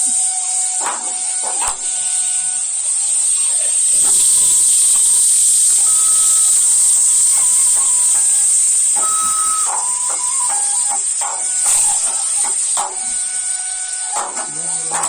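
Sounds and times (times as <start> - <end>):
fireworks hissing sparks: 0.0 - 15.0.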